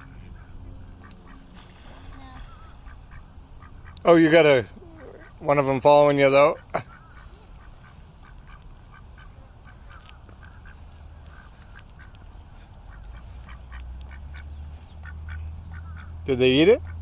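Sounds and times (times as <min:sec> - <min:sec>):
ducks quacking softly: 0:00.0 - 0:17.0.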